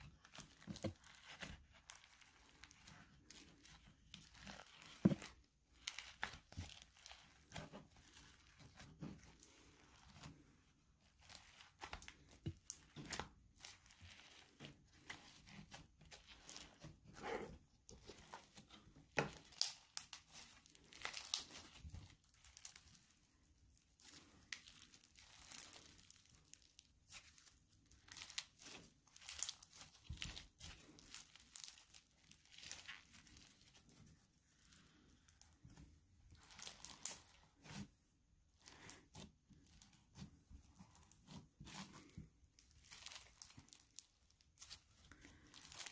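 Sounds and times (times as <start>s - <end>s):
slime crackling and popping: 0.0s - 10.3s, 11.0s - 17.2s, 17.9s - 35.5s, 36.3s - 37.8s, 38.6s - 45.9s.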